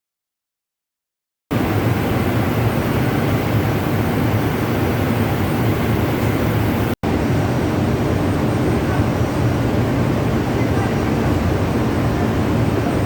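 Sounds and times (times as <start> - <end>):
ship engine room drone: 1.5 - 13.0.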